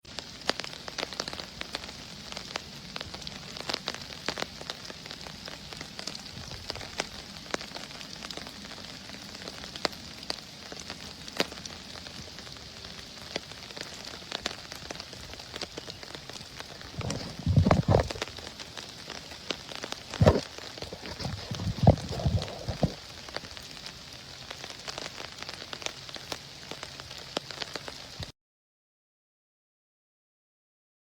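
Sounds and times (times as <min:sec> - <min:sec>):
rain falling steadily: 0:00.0 - 0:28.3
raindrops ticking: 0:00.1 - 0:28.3.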